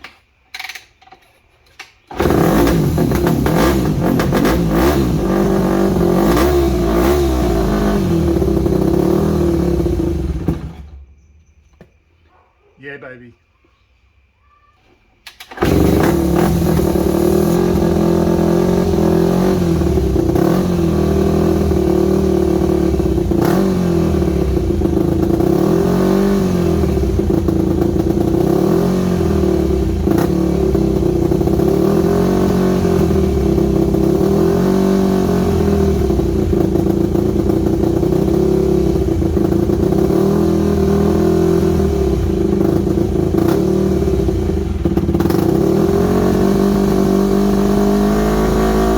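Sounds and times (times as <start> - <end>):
dirt bike engine revving: 2.1 - 11.1, 15.4 - 48.9.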